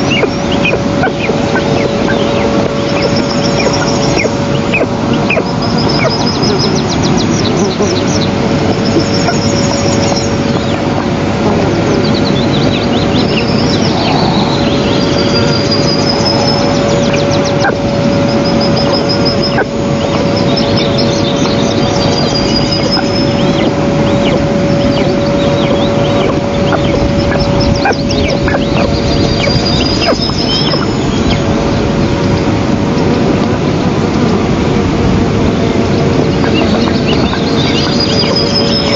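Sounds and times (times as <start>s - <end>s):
small birds chirping and trilling: 0.0s - 34.4s, 35.5s - 38.9s
low electrical hum: 0.0s - 38.9s
steady loud noise: 0.0s - 38.9s.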